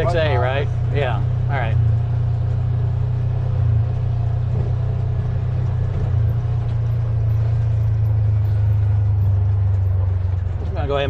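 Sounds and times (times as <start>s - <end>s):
buggy engine running: 0.0s - 11.0s.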